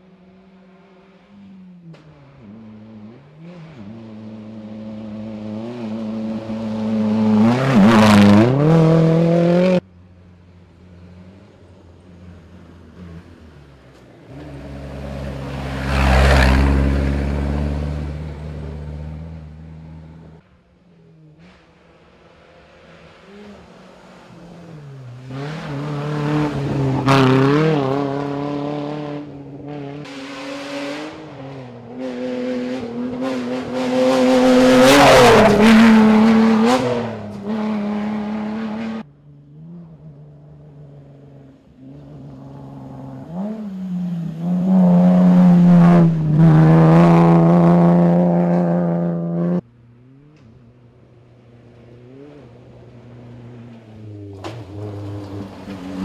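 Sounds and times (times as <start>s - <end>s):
rally cars revving past: 0.7s - 9.8s, 12.7s - 20.4s, 21.3s - 56.0s.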